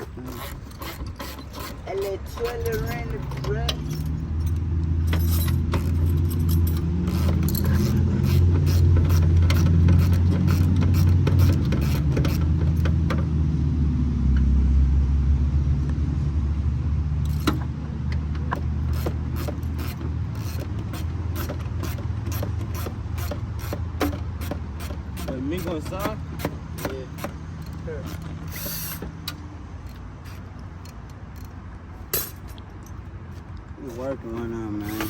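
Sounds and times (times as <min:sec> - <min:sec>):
car engine humming: 0:00.0 - 0:35.0.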